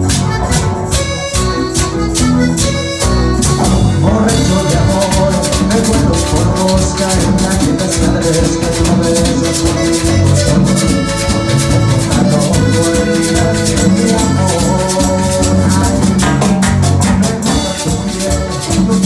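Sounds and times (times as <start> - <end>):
held melodic notes: 0.0 - 19.0
latin dance band playing: 0.0 - 19.0
shaker and drums beat: 0.0 - 19.0.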